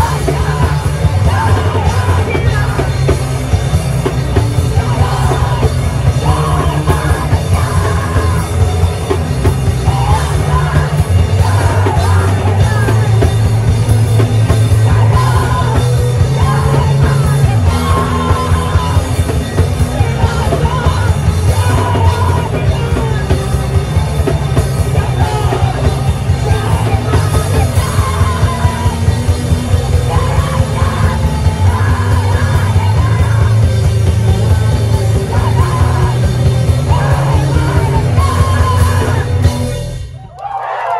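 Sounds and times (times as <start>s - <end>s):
yelled lead vocal: 0.0s - 40.0s
bass notes: 0.0s - 40.4s
punk rock band playing: 0.0s - 40.9s.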